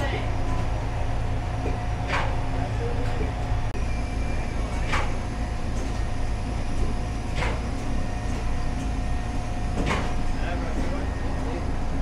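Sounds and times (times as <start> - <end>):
conveyor machinery humming: 0.0 - 12.0.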